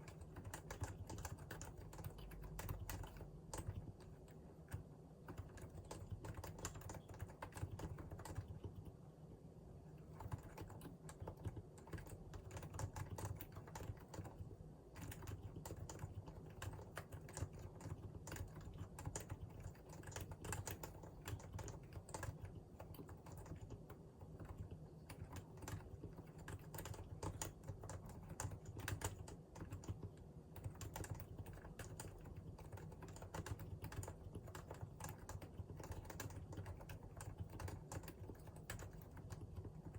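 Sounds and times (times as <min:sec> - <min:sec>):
keyboard typing soft clicks: 0:00.0 - 0:09.0, 0:10.0 - 0:39.9.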